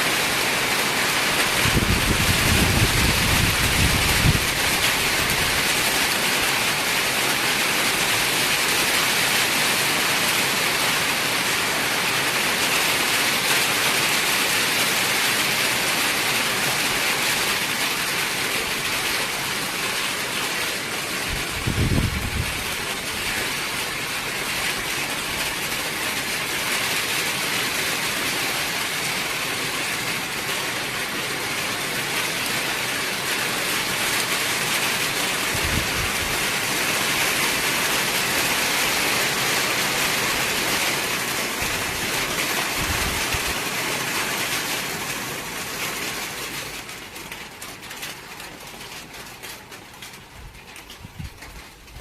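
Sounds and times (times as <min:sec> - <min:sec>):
heavy rain falling: 0:00.0 - 0:52.0
scattered raindrops: 0:00.0 - 0:52.0.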